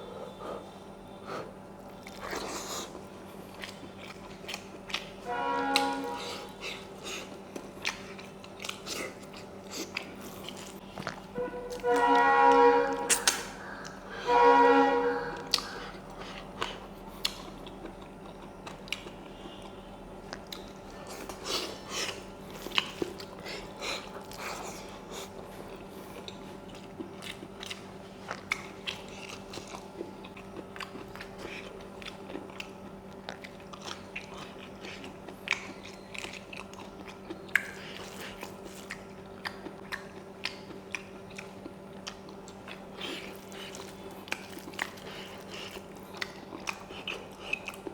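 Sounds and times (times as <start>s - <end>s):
steady low hum: 0.0s - 47.9s
close chewing and crunching: 1.2s - 12.3s, 15.4s - 47.9s.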